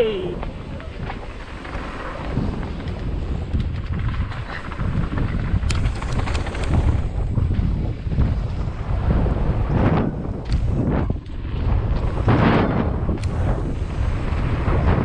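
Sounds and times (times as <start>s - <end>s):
tyres on dirt trail: 0.0s - 15.0s
wind buffeting microphone: 0.0s - 15.0s
bike rattling clicks: 0.3s - 8.7s, 10.2s - 15.0s.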